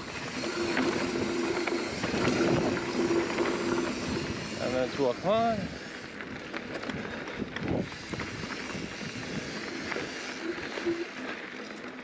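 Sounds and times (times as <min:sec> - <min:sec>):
bike clicks and rattles: 0:00.0 - 0:12.0
bike tyres on dirt: 0:00.0 - 0:12.0.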